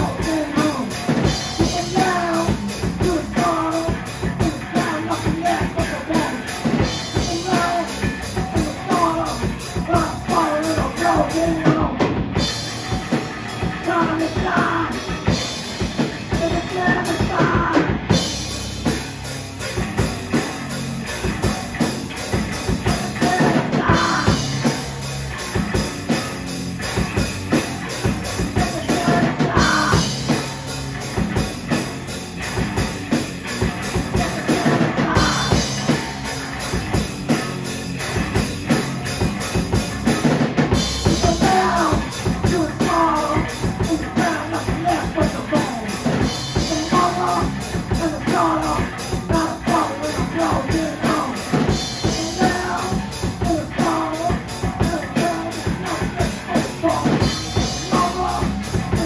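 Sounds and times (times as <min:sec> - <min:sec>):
drum kit: 0:00.0 - 0:59.0
electric bass: 0:00.0 - 0:59.0
electric guitar: 0:00.0 - 0:59.0.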